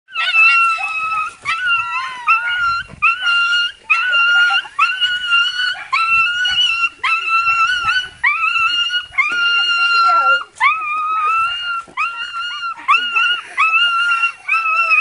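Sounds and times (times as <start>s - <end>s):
dog whining: 0.1s - 15.0s.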